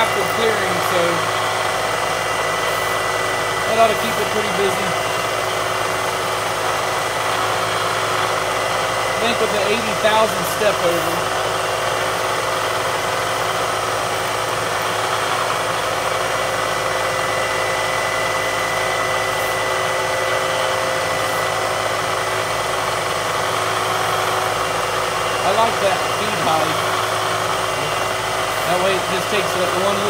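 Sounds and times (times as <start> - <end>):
machine hum with high whine: 0.0 - 30.0
milling machine drilling aluminum: 0.0 - 30.0.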